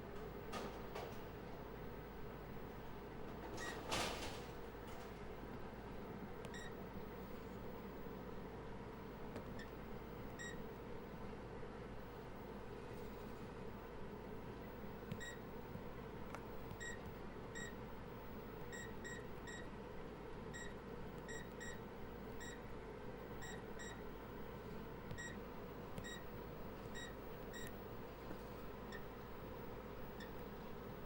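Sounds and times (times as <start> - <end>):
steady hum and hiss: 0.0 - 31.0.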